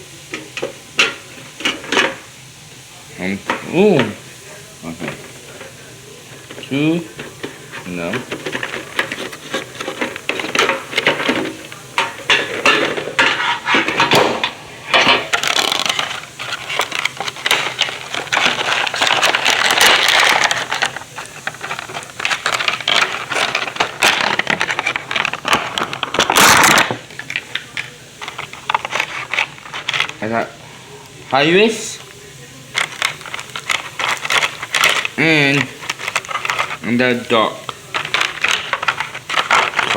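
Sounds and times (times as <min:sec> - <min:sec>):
tin and contents clicking and clinking: 0:03.4 - 0:31.4, 0:32.0 - 0:39.9.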